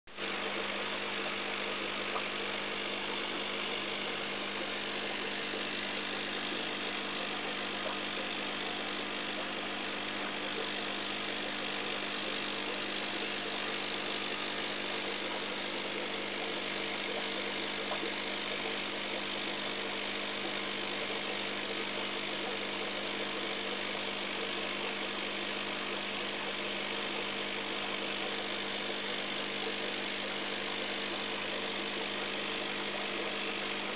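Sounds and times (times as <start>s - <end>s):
aquarium equipment humming: 0.1s - 33.9s.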